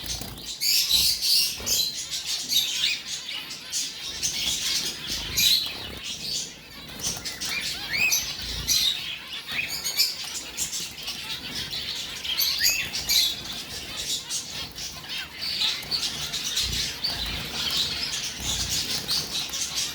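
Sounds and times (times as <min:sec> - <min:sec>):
finches chirping: 0:00.0 - 0:19.9.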